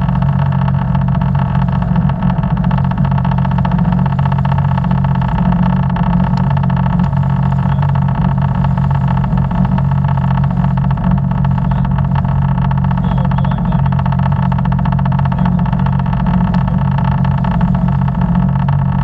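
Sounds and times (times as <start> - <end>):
jet ski engine drone: 0.0 - 19.0.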